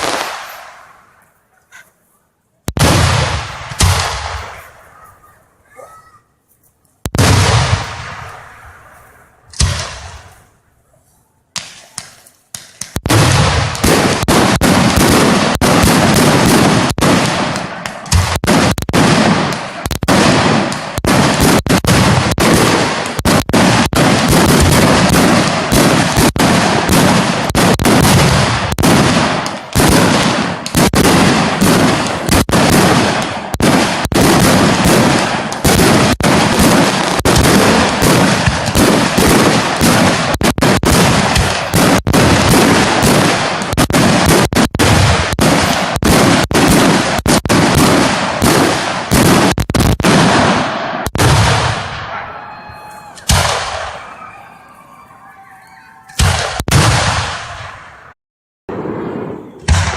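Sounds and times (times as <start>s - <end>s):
fireworks bangs and crackling: 0.0s - 1.8s, 2.6s - 59.9s.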